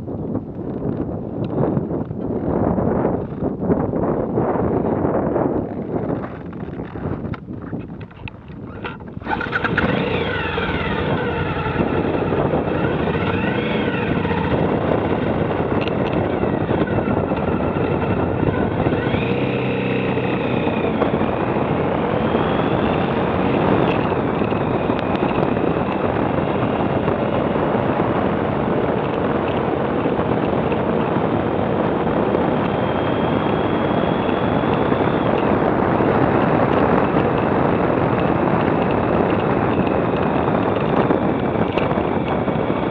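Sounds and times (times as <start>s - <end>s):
motorcycle engine revving: 5.4s - 42.9s.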